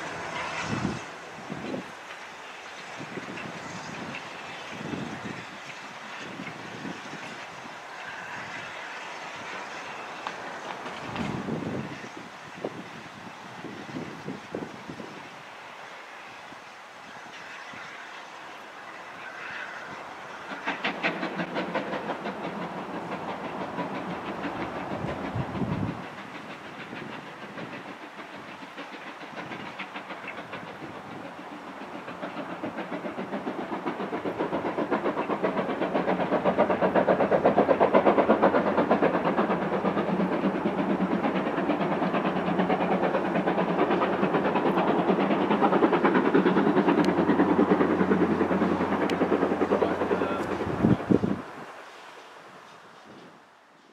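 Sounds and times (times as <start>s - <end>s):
train rhythmic clatter: 0.0s - 53.9s.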